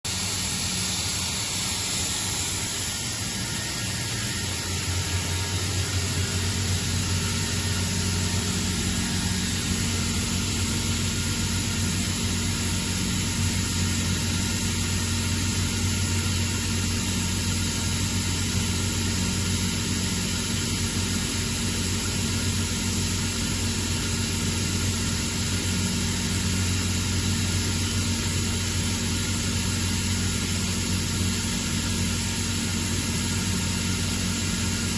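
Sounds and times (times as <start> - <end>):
air compressor hum: 0.1 - 34.9.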